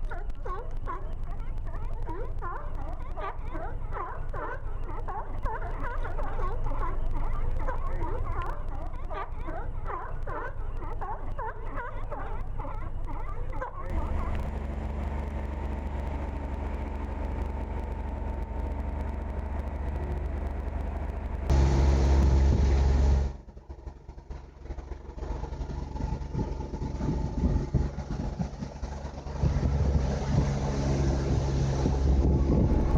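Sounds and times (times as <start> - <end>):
boat motor humming: 0.0 - 32.9.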